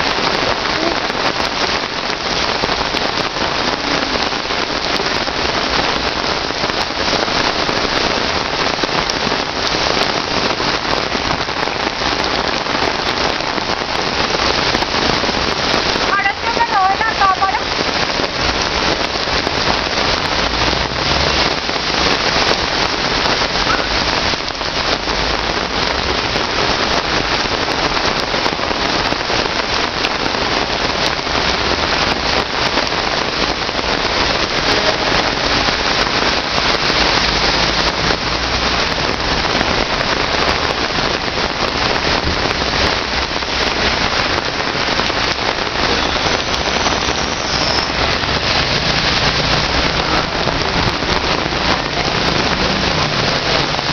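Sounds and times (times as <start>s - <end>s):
heavy rain on a flooded street: 0.0s - 53.9s.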